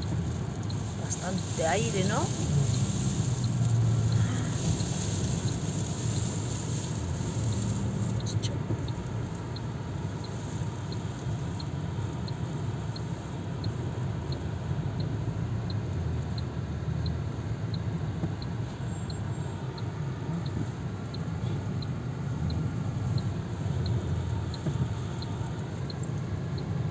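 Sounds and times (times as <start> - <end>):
wind buffeting a car: 0.0 - 26.9
faint regular tick: 2.3 - 26.9.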